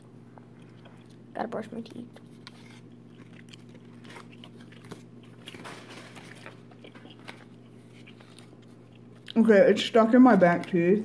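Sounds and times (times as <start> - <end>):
low steady hum: 0.0 - 11.0
chewing sticky candy: 0.4 - 9.6.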